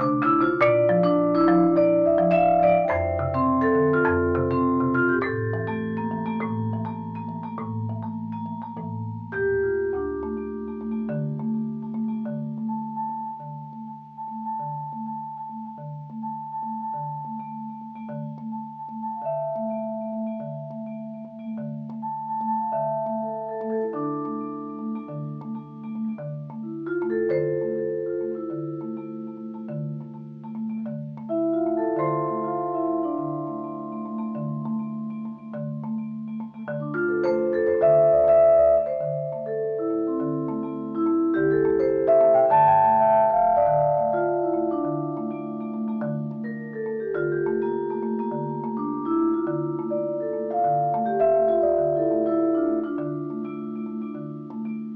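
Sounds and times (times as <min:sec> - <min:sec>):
vibraphone and marimba playing: 0:00.0 - 0:54.9.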